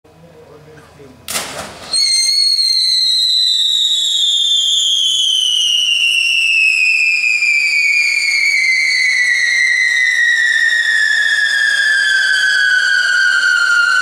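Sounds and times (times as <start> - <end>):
firework whistling: 1.3 - 14.0.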